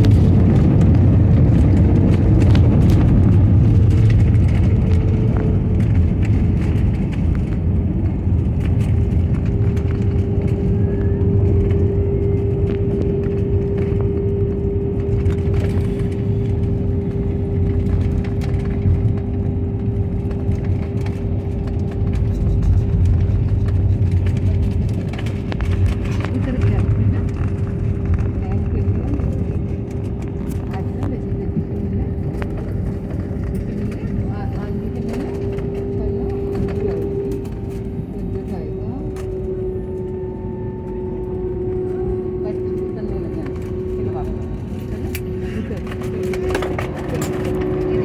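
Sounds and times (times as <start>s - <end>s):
jet engines whining: 0.0s - 48.0s.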